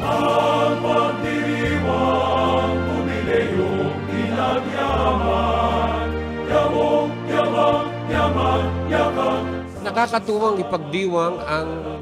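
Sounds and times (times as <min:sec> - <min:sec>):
choir singing sustained notes: 0:00.0 - 0:12.0.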